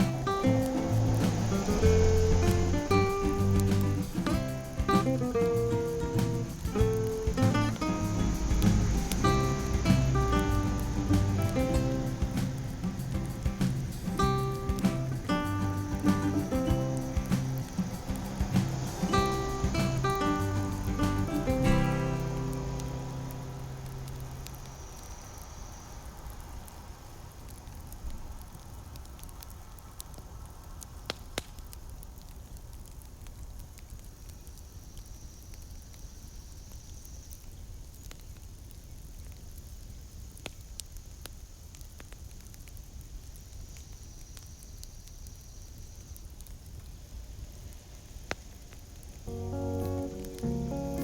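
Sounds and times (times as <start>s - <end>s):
fire crackling pops: 0.0s - 51.0s
wood fire burning: 0.0s - 51.0s.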